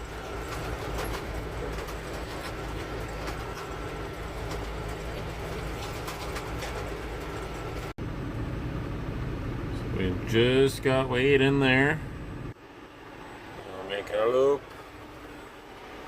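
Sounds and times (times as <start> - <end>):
truck road and engine noise: 0.0 - 16.0.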